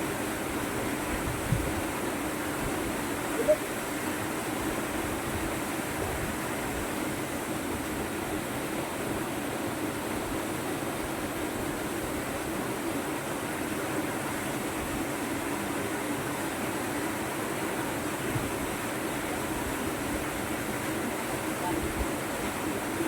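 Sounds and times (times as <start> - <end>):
rushing river water at waterfall: 0.0 - 23.0.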